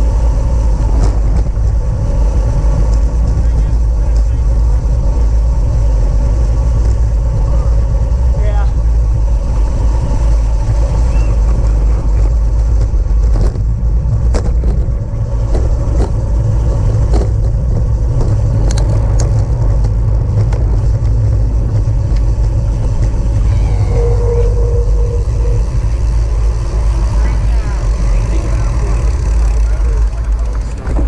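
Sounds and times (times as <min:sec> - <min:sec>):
wind rumble on microphone: 0:00.0 - 0:31.0.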